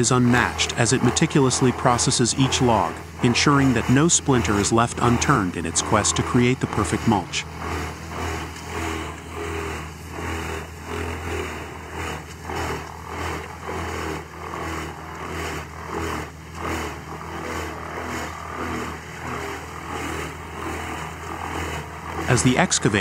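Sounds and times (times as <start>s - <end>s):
wood chipper engine drone: 0.0s - 23.0s.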